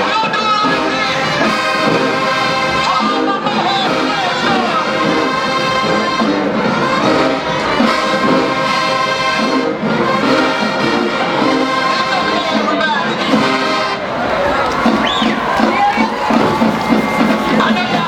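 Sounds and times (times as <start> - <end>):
marching band brass chords: 0.0 - 18.0.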